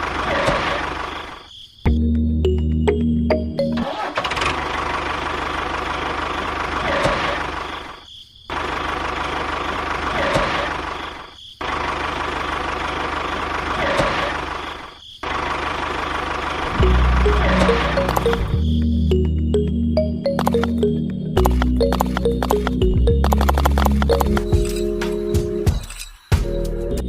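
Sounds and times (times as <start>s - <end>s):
engine running: 2.5s - 7.9s, 8.5s - 25.2s.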